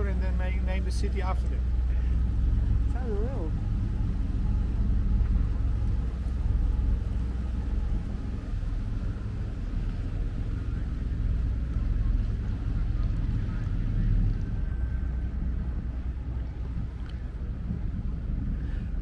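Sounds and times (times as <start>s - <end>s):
boat motor low rumble: 0.0s - 19.0s
water noise: 0.0s - 19.0s
wind noise: 0.0s - 19.0s.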